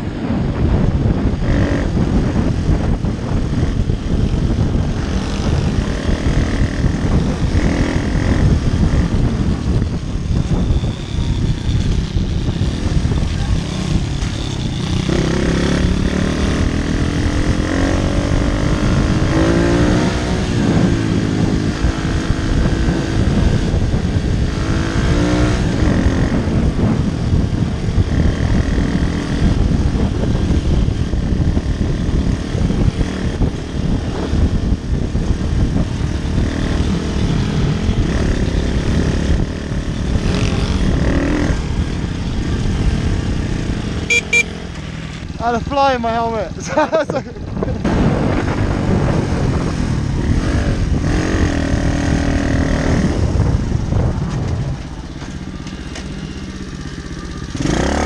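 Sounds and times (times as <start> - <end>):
wind rumble on microphone: 0.0 - 58.0
pit bike engine revving: 0.5 - 47.2, 47.8 - 58.0.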